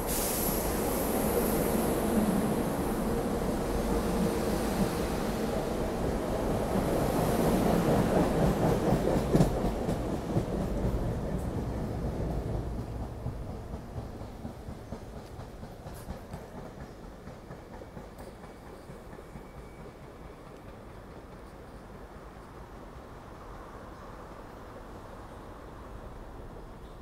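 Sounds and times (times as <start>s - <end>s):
electric train rumbling past: 0.0s - 27.0s.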